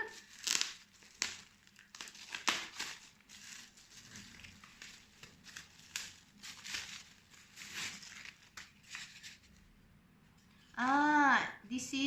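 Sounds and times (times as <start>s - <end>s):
packaging rustling and crackling: 0.0s - 9.7s.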